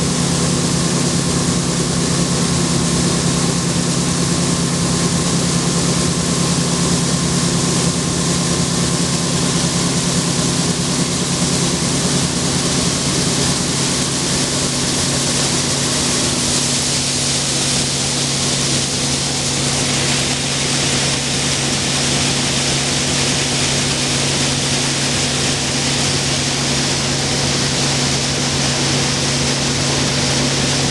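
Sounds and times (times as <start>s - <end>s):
combine harvester running: 0.0s - 30.9s.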